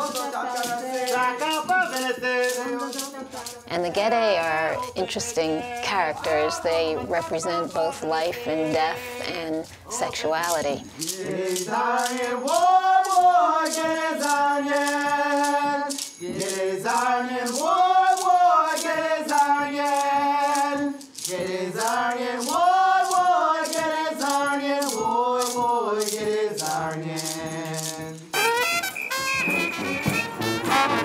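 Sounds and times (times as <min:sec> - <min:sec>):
rattle shaken in a beat: 0:00.0 - 0:31.0.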